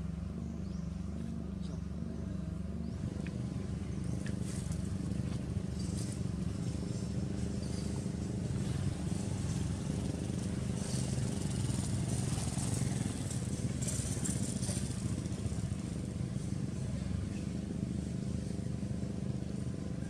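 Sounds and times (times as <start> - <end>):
small motor humming: 0.0 - 20.0.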